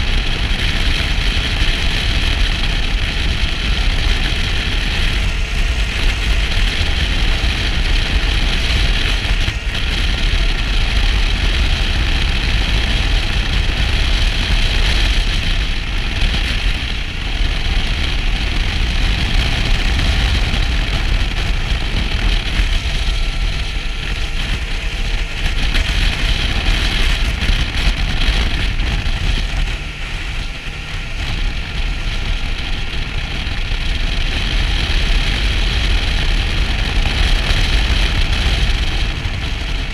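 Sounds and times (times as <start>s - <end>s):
motorcycle engine and tyre noise: 0.0s - 39.9s
wind rush on microphone: 0.0s - 39.9s.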